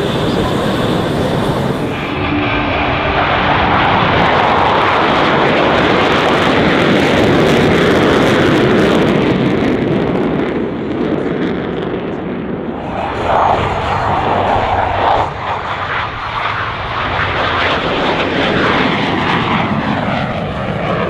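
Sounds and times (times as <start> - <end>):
loud jet engine noise: 0.0 - 21.0.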